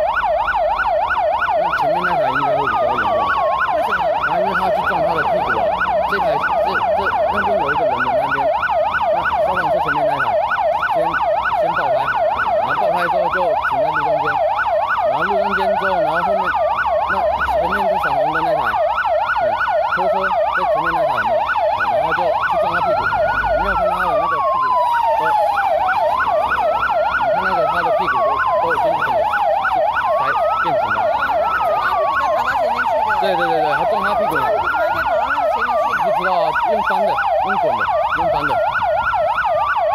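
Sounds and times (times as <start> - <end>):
siren fast warbling yelp: 0.0 - 39.9
siren slow rising wail: 0.0 - 39.9.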